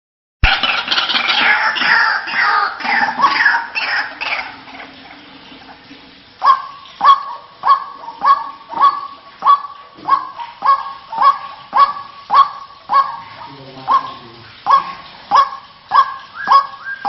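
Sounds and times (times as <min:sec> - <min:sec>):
waterhen calling: 0:00.4 - 0:17.0.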